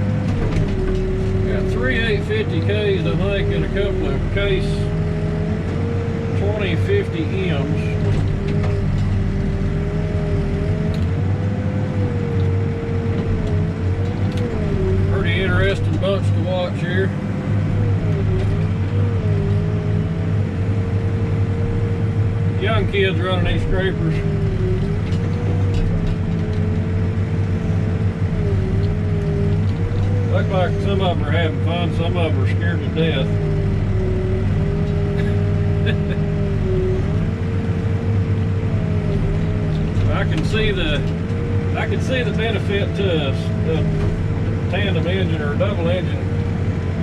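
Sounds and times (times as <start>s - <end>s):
diesel engine drone: 0.0s - 47.0s
engine whine: 0.0s - 47.0s.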